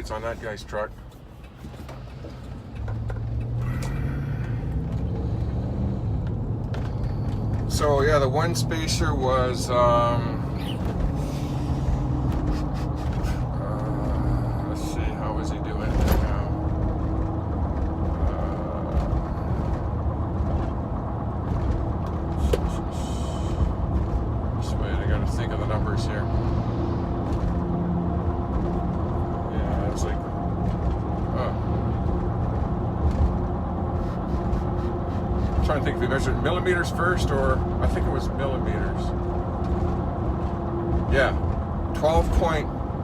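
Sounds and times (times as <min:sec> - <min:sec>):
car engine hum: 0:00.0 - 0:43.0
road noise inside car: 0:00.0 - 0:43.0.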